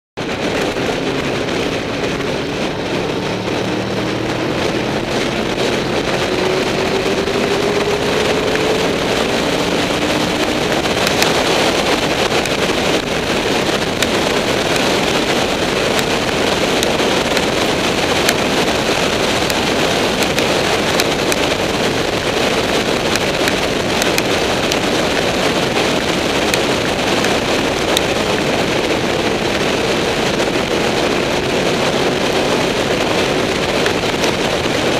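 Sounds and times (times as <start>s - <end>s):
motorcycle engine running: 0.2s - 34.9s
wind rushing over microphone: 0.2s - 34.9s.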